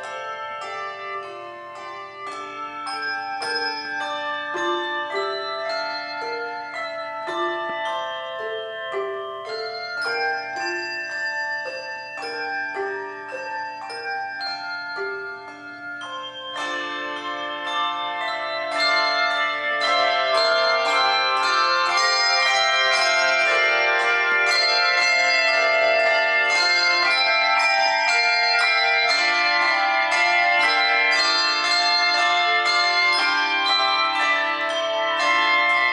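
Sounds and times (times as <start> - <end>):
handbell choir playing tune: 0.0 - 35.9.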